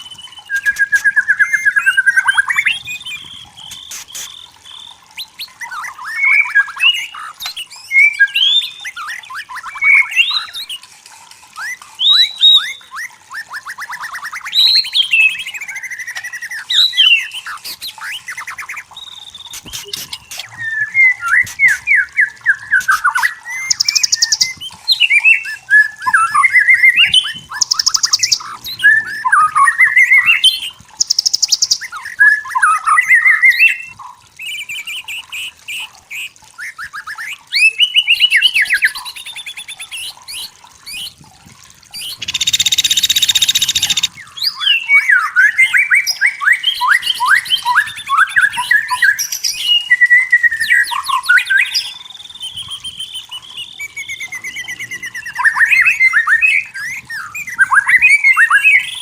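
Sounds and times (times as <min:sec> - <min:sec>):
bird singing whistled phrases: 0:00.0 - 0:10.7, 0:11.6 - 0:35.5, 0:36.2 - 0:41.1, 0:42.0 - 0:59.0.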